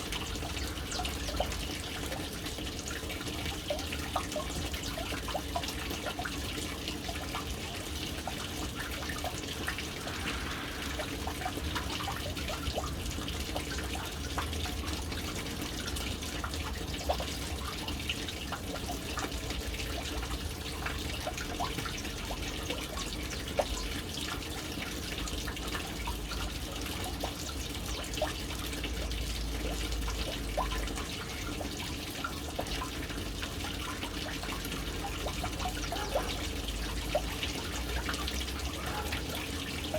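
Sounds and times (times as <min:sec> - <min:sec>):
water drips: 0:00.0 - 0:39.9
water running into a tank: 0:00.0 - 0:39.9.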